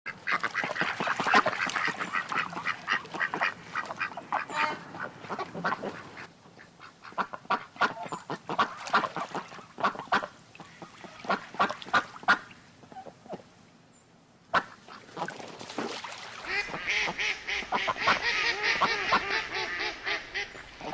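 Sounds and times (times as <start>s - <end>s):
ducks quacking: 0.1s - 13.4s, 16.4s - 20.9s.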